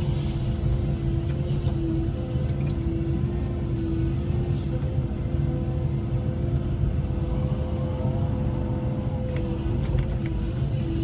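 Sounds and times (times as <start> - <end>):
excavator diesel engine rumbling: 0.0 - 11.0.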